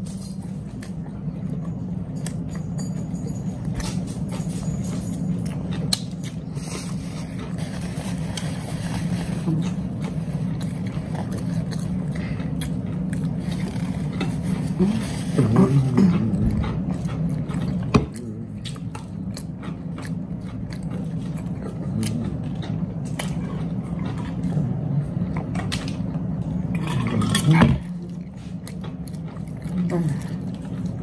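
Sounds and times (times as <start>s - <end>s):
people chewing food: 0.0s - 31.0s
steady low hum: 0.0s - 31.0s.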